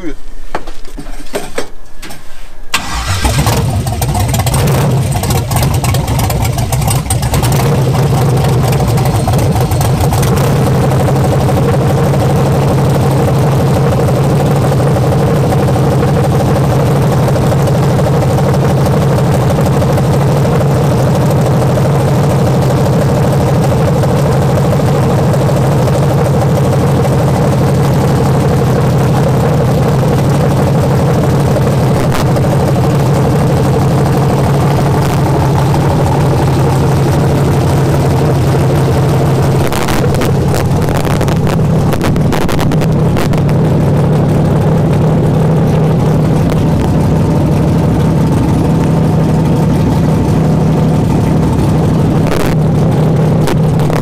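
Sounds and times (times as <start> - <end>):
car engine starting and idling: 2.7 - 54.0.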